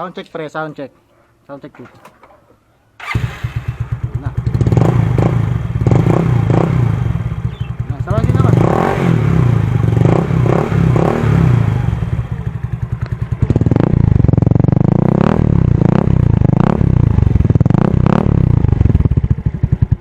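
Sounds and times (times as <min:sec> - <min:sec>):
scooter engine idling and revving: 0:03.0 - 0:20.0.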